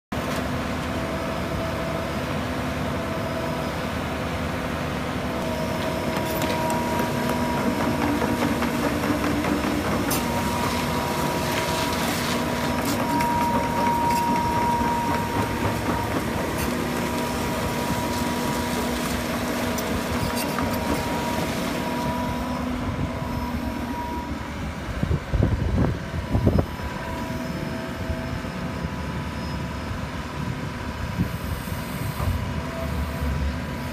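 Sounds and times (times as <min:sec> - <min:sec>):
excavator diesel engine running: 0:00.2 - 0:33.9
hydraulic whine: 0:05.2 - 0:33.9.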